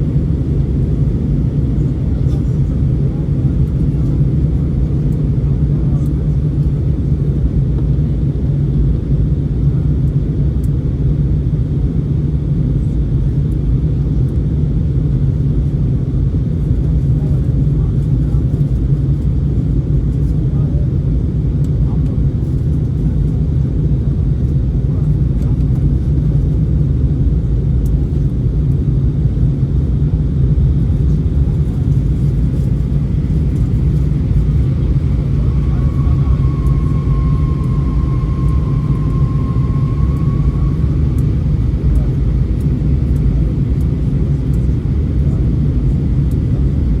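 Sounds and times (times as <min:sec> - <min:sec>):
airliner cabin rumble: 0:00.0 - 0:47.0.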